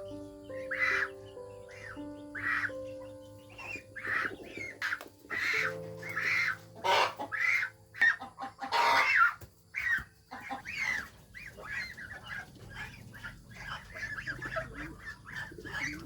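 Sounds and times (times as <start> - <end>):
poultry calling: 0.0 - 16.0.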